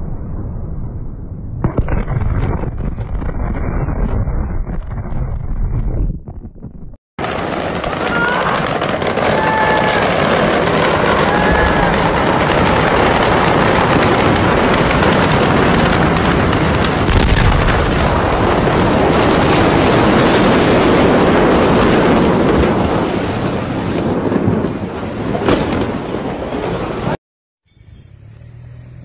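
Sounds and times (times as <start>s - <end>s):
explosion rushing din with crackles: 0.0s - 27.2s.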